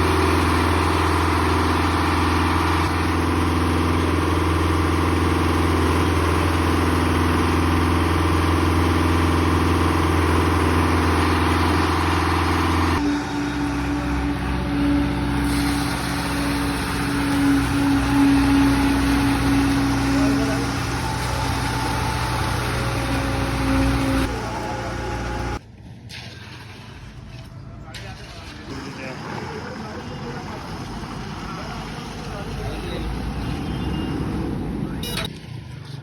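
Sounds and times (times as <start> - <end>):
truck engine running: 0.0 - 25.7, 28.4 - 36.0.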